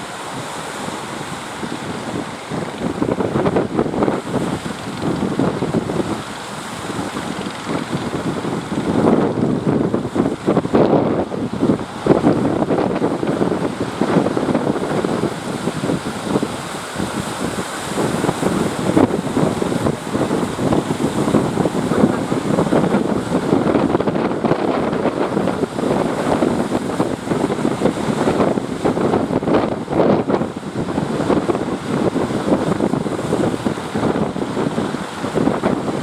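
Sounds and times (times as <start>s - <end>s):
strong wind buffeting microphone: 0.0s - 36.0s
waves and surf: 0.0s - 36.0s.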